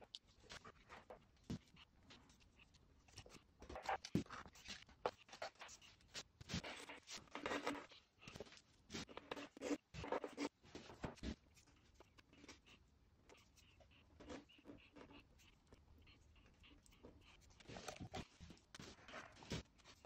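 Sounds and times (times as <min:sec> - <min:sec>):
fingers scraping plaster: 0:00.2 - 0:20.0.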